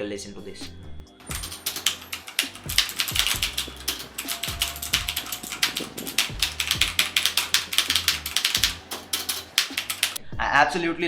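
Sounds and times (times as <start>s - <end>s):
clicky mechanical keyboard typing: 1.2s - 10.2s.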